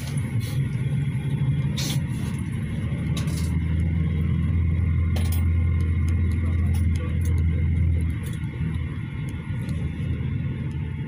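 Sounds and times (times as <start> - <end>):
engine and road drone: 0.0 - 11.0.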